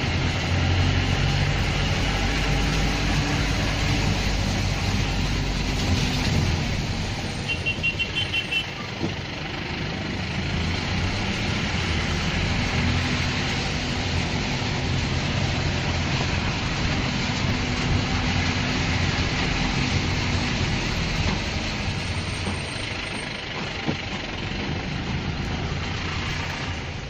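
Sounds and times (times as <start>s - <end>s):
steady rain: 0.0s - 7.4s, 9.4s - 27.0s
vehicle engine humming: 0.0s - 27.0s.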